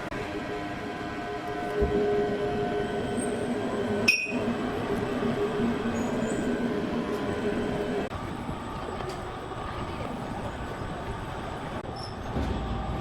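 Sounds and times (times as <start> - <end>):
sawmill machinery humming: 0.0 - 11.8.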